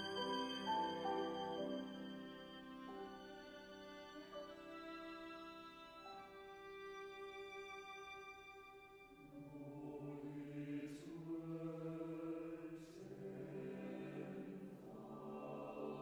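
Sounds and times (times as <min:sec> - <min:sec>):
choir singing softly: 0:00.0 - 0:16.0.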